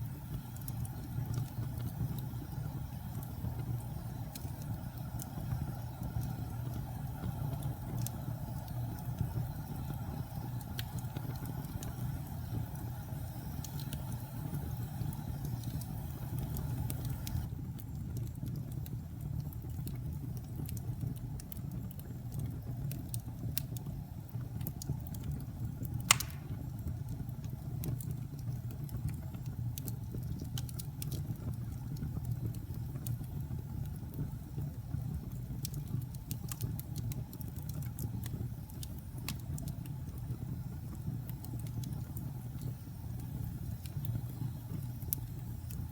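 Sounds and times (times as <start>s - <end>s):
fire crackling and popping: 0.0s - 45.9s
fire rumbling in fireplace: 0.0s - 45.9s.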